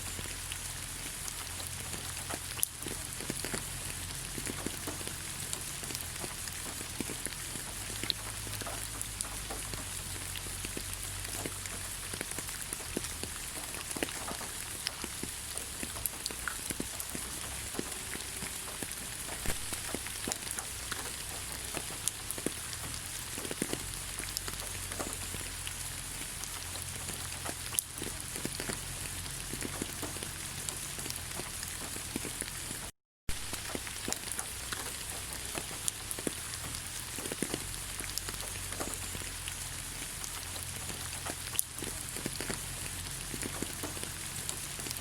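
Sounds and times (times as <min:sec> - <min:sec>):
rain falling on leaves: 0:00.0 - 0:45.0.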